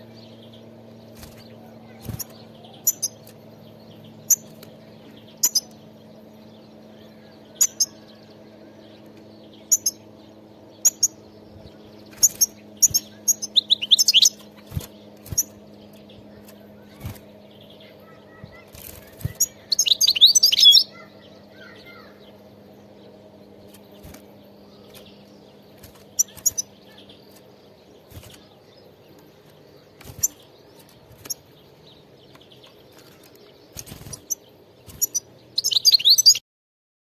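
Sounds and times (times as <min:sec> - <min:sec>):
faint low hum: 0:00.0 - 0:36.4
goldfinch twittering song: 0:00.0 - 0:36.4.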